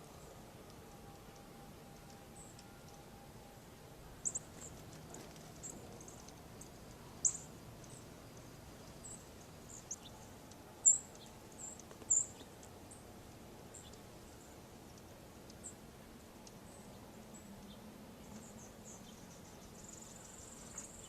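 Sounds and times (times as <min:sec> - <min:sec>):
faint steady hiss: 0:00.0 - 0:21.0
small birds chirping: 0:00.0 - 0:21.0.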